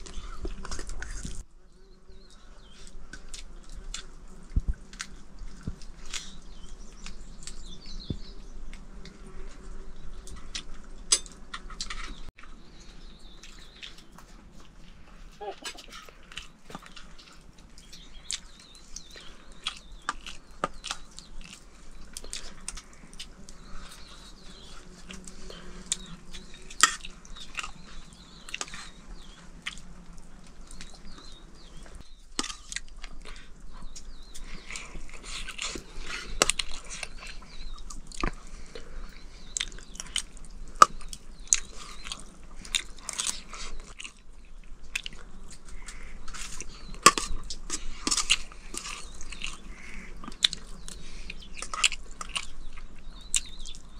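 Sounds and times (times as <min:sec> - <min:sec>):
person chewing and crunching: 0:00.0 - 0:53.9.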